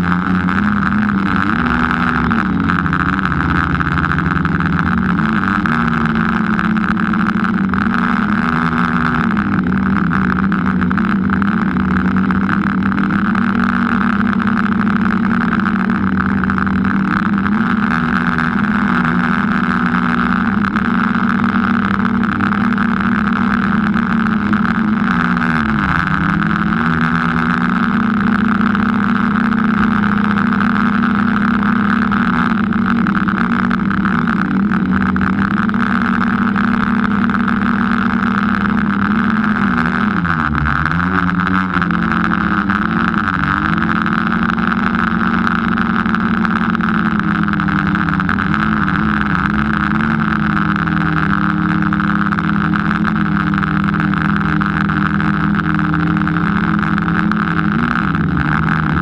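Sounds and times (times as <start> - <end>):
small aircraft motor humming: 0.0 - 59.0.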